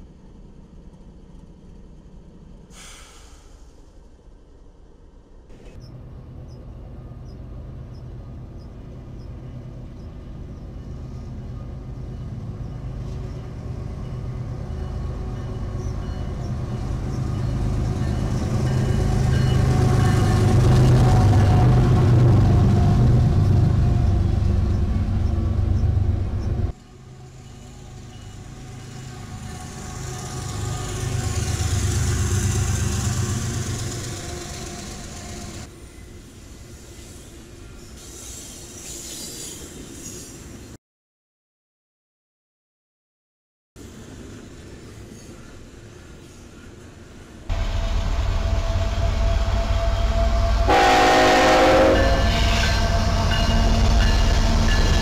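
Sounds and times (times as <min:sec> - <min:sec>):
diesel locomotives passing: 0:00.0 - 0:40.8, 0:43.8 - 0:55.0.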